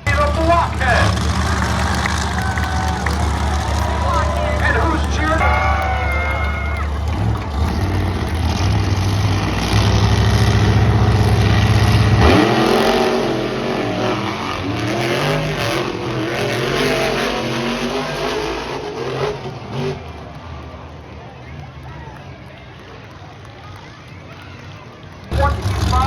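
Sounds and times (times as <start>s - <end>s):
truck engine revving: 0.0s - 20.6s, 25.3s - 26.0s.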